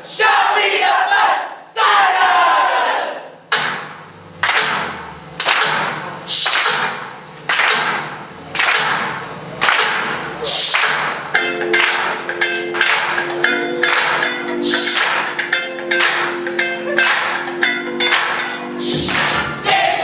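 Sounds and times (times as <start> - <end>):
group clapping in unison: 3.6 - 20.0.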